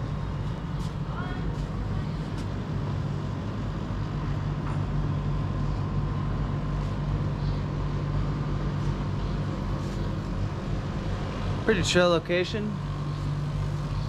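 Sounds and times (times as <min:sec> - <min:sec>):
faint constant whine: 0:00.0 - 0:14.0
low mechanical hum: 0:00.0 - 0:14.0.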